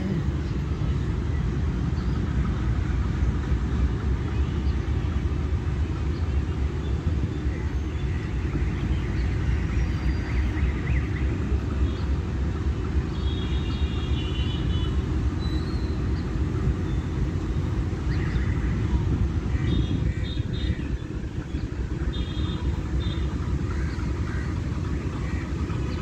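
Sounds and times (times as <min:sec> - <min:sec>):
locomotive engine rumbling: 0:00.0 - 0:26.0.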